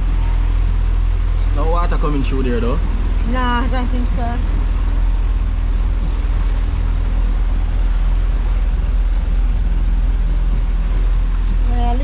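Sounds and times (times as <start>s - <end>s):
boat low rumble: 0.0s - 12.0s
rain hiss: 0.0s - 12.0s.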